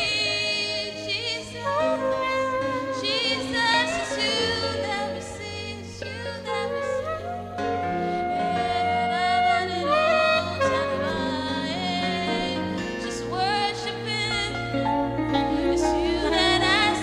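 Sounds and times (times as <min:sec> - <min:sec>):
saxophone melody: 0:00.0 - 0:17.0
sustained chords: 0:00.0 - 0:17.0.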